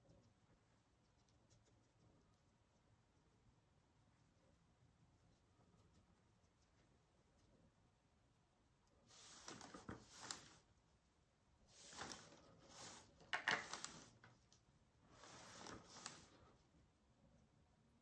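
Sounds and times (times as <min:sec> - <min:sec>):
paintbrush brushing: 0:00.0 - 0:07.9, 0:08.8 - 0:16.8.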